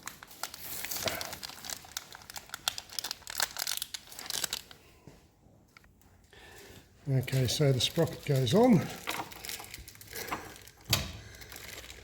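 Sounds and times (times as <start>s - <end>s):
crinkling rustle: 0.0s - 5.8s, 6.5s - 12.0s.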